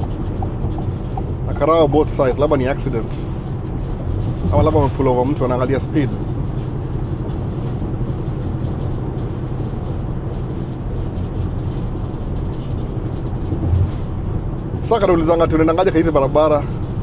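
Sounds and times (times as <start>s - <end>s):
truck road and engine rumble: 0.0s - 17.0s.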